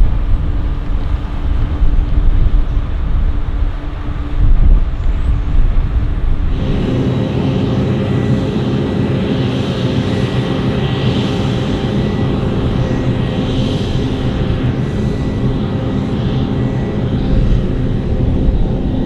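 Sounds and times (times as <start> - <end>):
farm machinery engine drone: 0.0 - 19.0.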